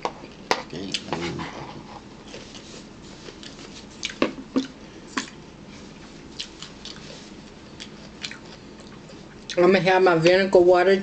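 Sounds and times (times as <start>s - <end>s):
person chewing: 0.2s - 9.6s.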